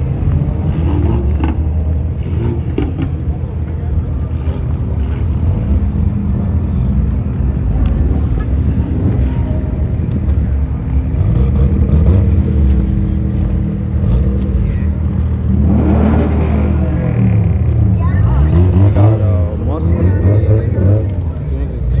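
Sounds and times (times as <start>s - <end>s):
car engines droning: 0.0s - 22.0s.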